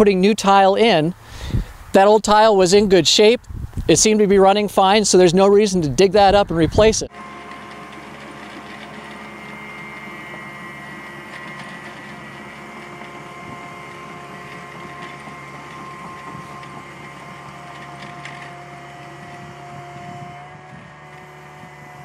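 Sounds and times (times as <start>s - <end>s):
excavator engine and hydraulics: 0.0s - 22.0s.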